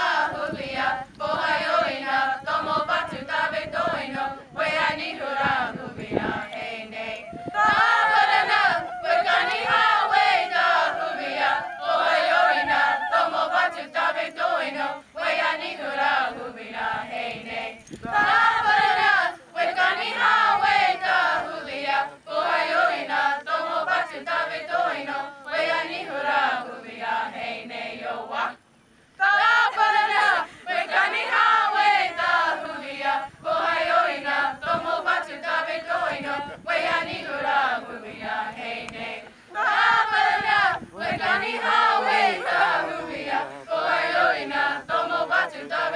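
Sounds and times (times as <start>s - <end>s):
youth choir singing a hymn: 0.0s - 28.6s, 29.2s - 45.9s.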